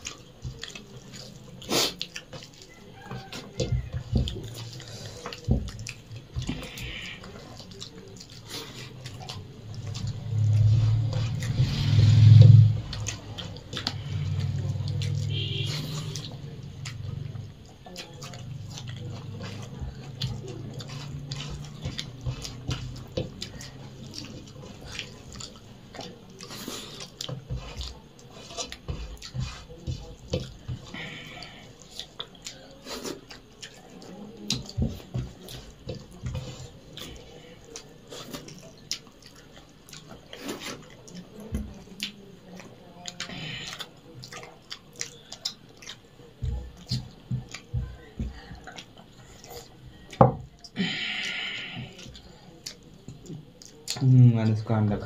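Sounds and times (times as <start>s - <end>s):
chewing and lip-smacking: 0.0s - 54.6s
wet squelches of food: 0.0s - 55.0s.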